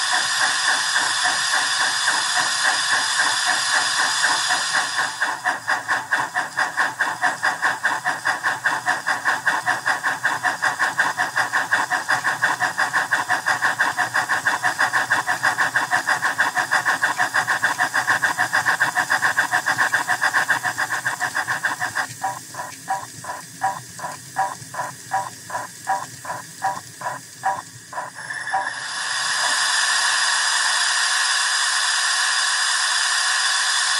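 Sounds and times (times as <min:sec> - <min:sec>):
steam chuffs from speaker: 0:00.0 - 0:33.9.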